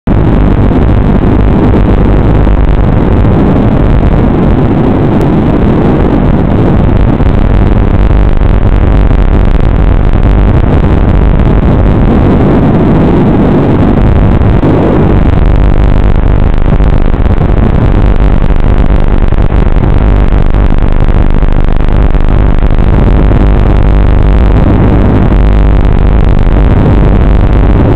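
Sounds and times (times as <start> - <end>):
distorted hiss and static: 0.0 - 27.9
low hum: 0.1 - 27.9.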